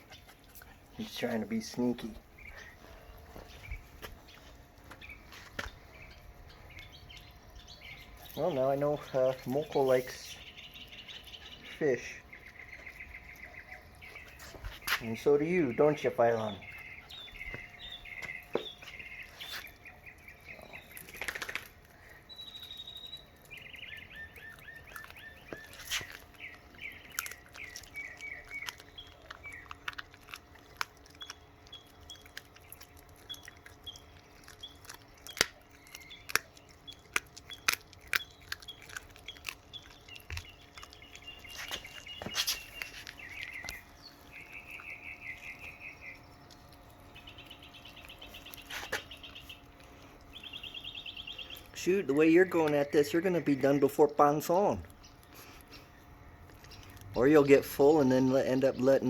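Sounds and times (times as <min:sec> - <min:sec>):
dog crunching on frozen fish: 0:00.0 - 0:59.0
small birds chirping: 0:00.0 - 0:59.0.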